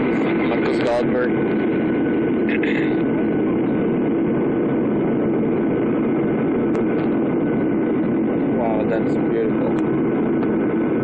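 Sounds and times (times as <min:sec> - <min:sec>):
aircraft cabin engine hum: 0:00.0 - 0:11.0
faint high whine: 0:00.0 - 0:11.0.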